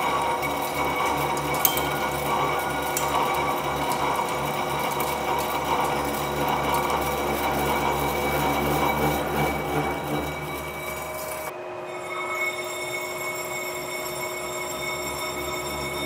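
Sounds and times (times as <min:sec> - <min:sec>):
lathe cutting steel with chatter: 0:00.0 - 0:16.0
steady ringing tone: 0:00.0 - 0:16.0.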